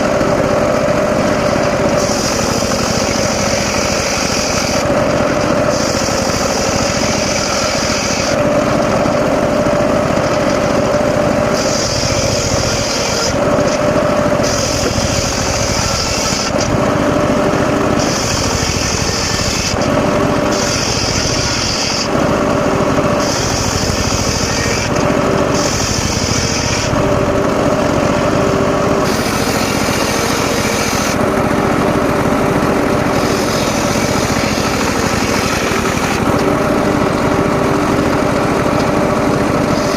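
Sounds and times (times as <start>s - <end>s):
circular saw running: 0.0s - 39.9s
saw blade hissing through wood: 0.6s - 39.9s.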